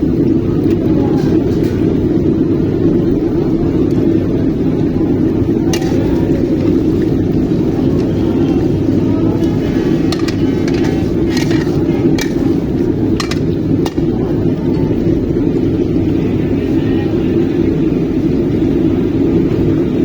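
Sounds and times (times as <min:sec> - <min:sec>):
loud low rumble: 0:00.0 - 0:20.0.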